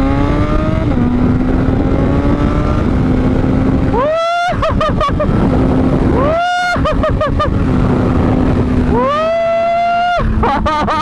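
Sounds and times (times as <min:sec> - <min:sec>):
motorcycle engine revving high: 0:00.0 - 0:11.0
wind rushing over microphone: 0:00.0 - 0:11.0.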